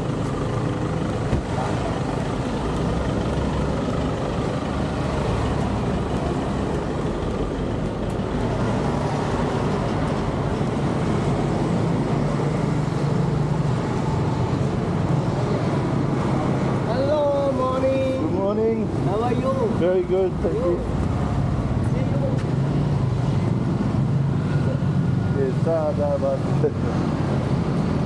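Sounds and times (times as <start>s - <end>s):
vehicle engines and road noise: 0.0s - 28.0s.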